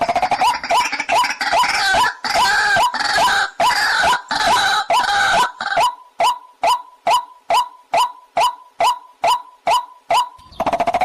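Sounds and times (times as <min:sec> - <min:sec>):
harsh overlapping bird calls: 0:00.0 - 0:11.0.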